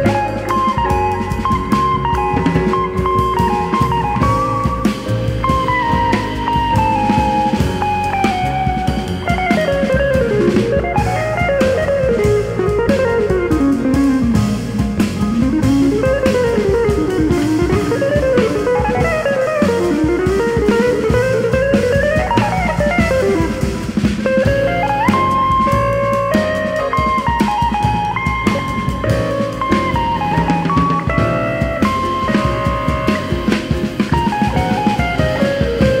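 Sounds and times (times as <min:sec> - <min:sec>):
drum kit: 0:00.0 - 0:36.0
electric guitar solo: 0:00.0 - 0:36.0
piano: 0:00.0 - 0:36.0
upright bass: 0:00.0 - 0:36.0.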